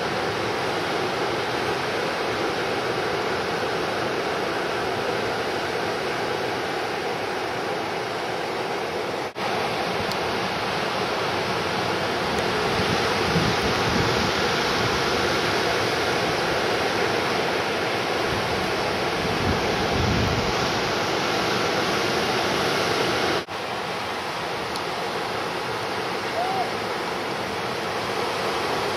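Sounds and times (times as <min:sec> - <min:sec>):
ocean waves breaking: 0:00.0 - 0:28.9.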